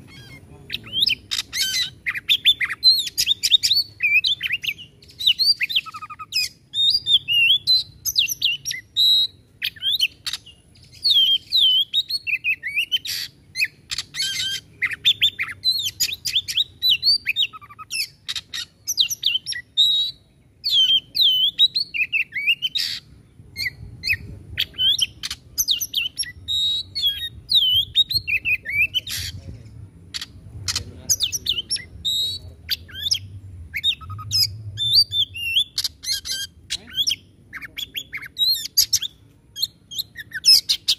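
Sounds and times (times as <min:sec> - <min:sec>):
bird singing whistled phrases: 0:00.1 - 0:29.4, 0:30.2 - 0:40.9.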